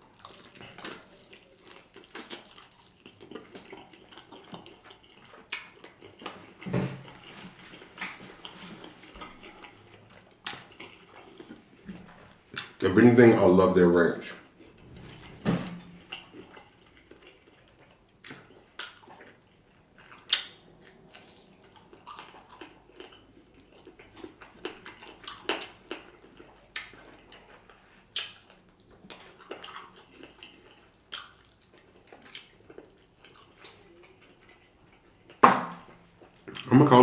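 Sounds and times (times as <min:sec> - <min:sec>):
person chewing and smacking lips: 0:00.0 - 0:13.0, 0:14.5 - 0:36.9.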